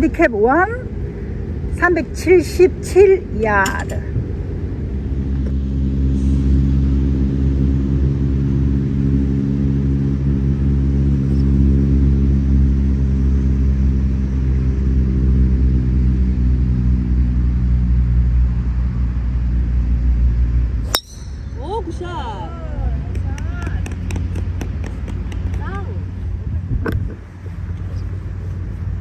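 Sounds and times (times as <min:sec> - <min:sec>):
low engine hum idling: 0:00.0 - 0:29.0.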